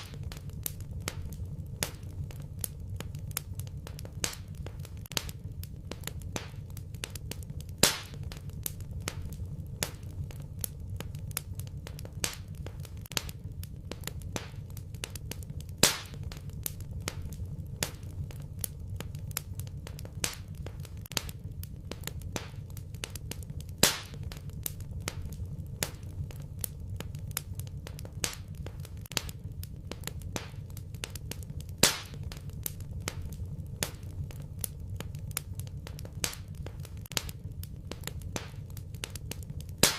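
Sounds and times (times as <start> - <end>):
fire popping: 0.0 - 39.9
low rumble of flames: 0.0 - 39.9
wood fire crackling: 0.0 - 39.9.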